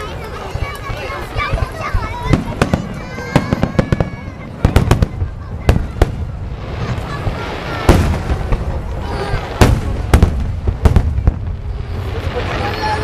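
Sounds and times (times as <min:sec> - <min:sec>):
echoing crackle: 0:00.0 - 0:13.0
fireworks exploding: 0:00.0 - 0:13.0.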